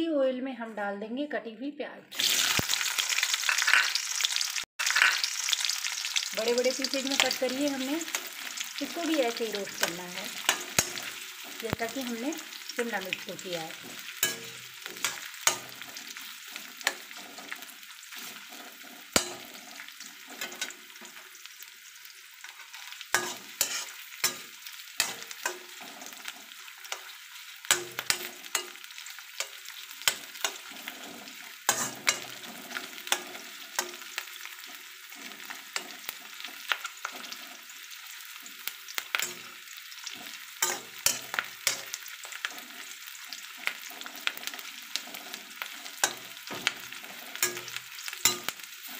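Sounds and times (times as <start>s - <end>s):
onions sizzling in hot oil: 2.1s - 48.9s
spatula scraping a pan: 4.9s - 48.9s.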